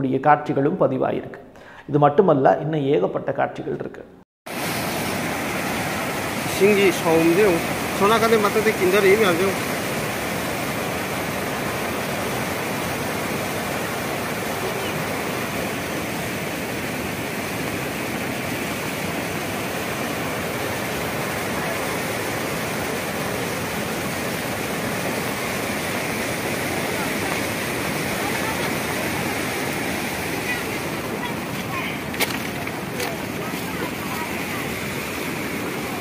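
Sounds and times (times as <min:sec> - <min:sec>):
floodwater rushing: 0:04.5 - 0:36.0.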